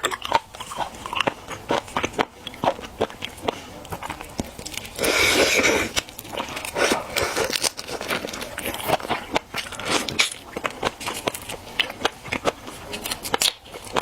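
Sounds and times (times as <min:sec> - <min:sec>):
chewing and crunching seafood: 0:00.0 - 0:14.0.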